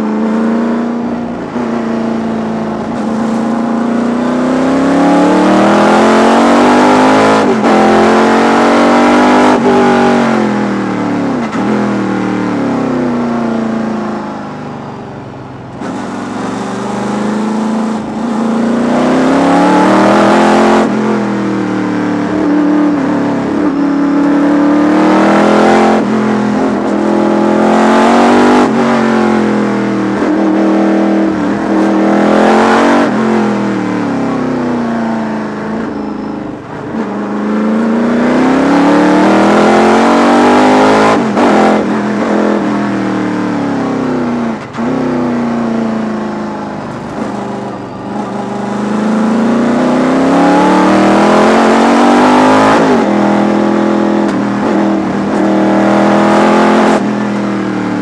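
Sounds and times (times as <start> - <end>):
race car engine revving: 0.0 - 14.6, 15.7 - 58.0.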